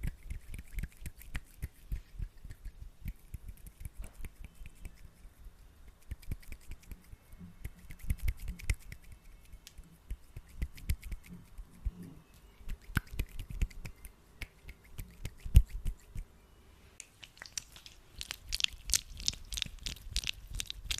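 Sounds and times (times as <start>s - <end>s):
hands rubbing sticky gel: 0.0s - 5.3s, 5.9s - 12.0s, 12.7s - 16.3s, 17.0s - 20.9s.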